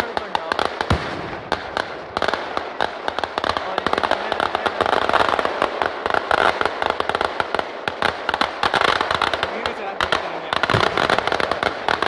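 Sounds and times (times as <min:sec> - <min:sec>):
firecrackers cracking rapidly: 0:00.0 - 0:12.0.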